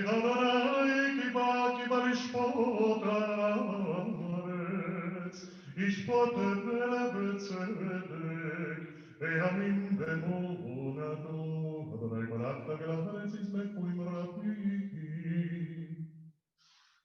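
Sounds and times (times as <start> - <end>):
man singing liturgical melody: 0.0 - 16.0.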